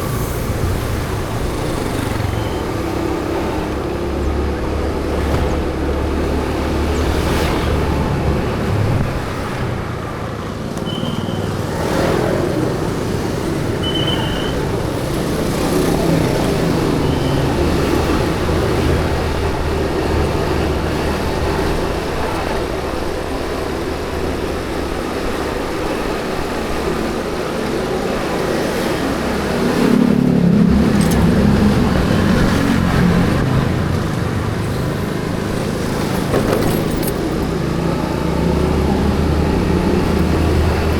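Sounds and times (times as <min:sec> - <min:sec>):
road traffic with engine hum: 0:00.0 - 0:40.9.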